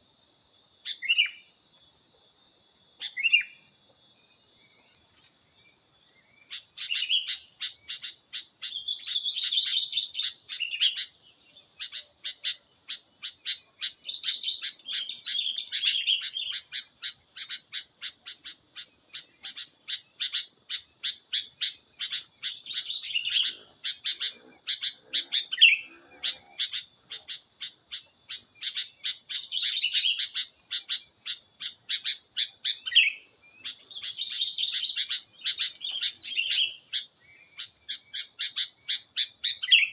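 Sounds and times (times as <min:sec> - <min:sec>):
high insect drone: 0:00.0 - 0:39.9
birds chirping and warbling: 0:00.9 - 0:01.4, 0:03.0 - 0:03.6, 0:05.6 - 0:39.9.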